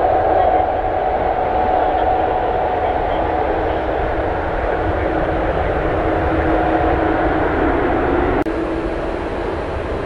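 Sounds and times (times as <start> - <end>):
jet engines running: 0.0 - 10.0.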